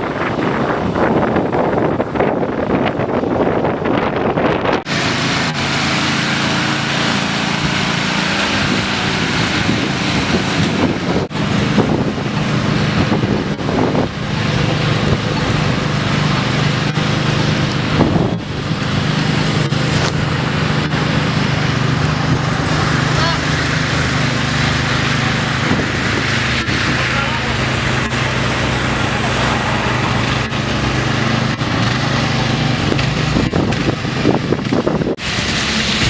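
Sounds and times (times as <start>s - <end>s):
engine hum: 0.0s - 36.0s
wind blowing across microphone: 0.0s - 36.0s.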